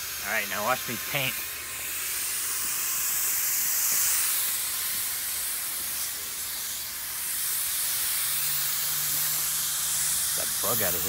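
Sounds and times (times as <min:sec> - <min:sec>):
paint spray gun hissing: 0:00.0 - 0:11.0.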